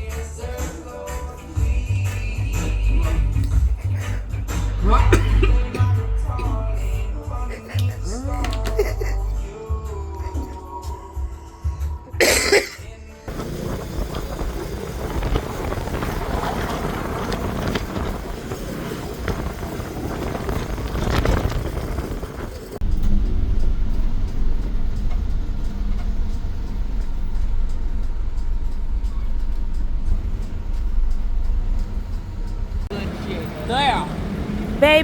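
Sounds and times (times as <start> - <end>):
road noise: 0.0 - 11.6, 12.2 - 35.0
vehicle engine rumble: 0.0 - 35.0.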